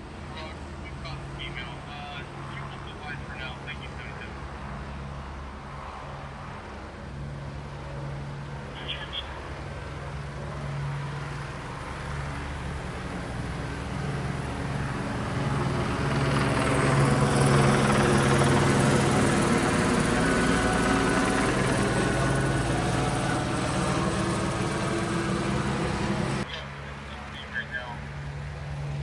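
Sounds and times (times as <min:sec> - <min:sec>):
helicopter rotor drone: 0:00.0 - 0:29.0.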